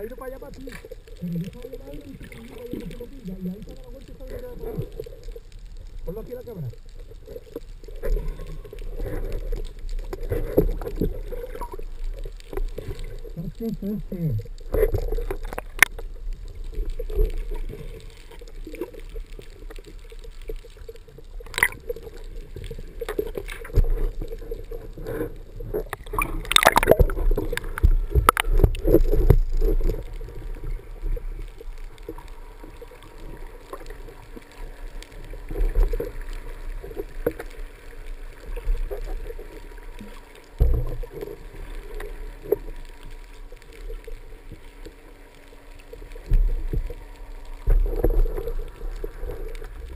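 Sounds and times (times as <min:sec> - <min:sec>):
underwater gurgling wash: 0:00.0 - 0:49.9.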